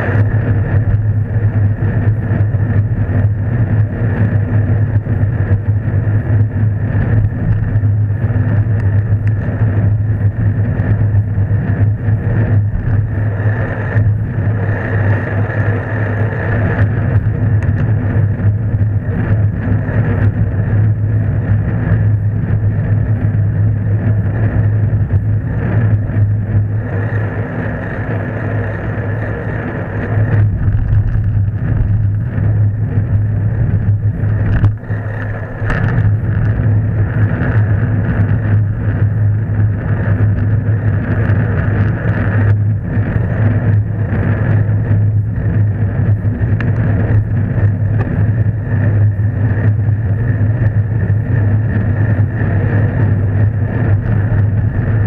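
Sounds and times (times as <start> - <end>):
road vibration: 0.0 - 55.0
wind rumble: 0.0 - 55.0.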